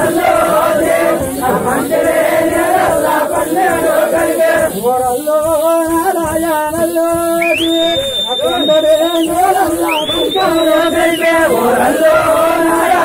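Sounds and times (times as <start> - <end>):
crowd noise: 0.0 - 13.0
group singing a chant: 0.0 - 13.0.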